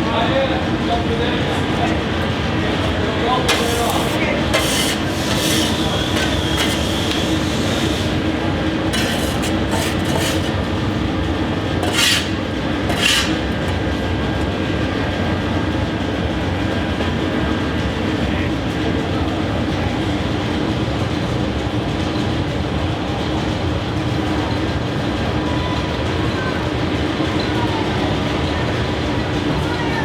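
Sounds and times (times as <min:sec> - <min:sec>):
workshop machinery clatter and hum: 0:00.0 - 0:30.0.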